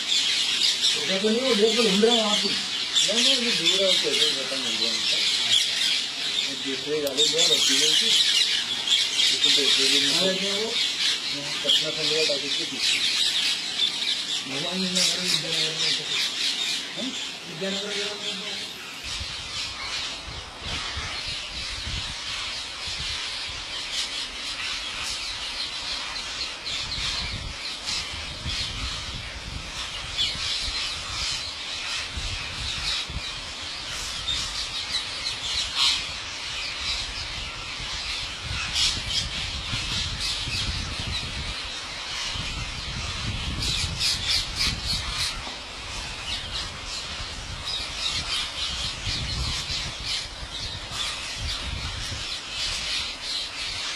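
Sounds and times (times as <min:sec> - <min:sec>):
parrots screeching and squawking: 0:00.0 - 0:53.9.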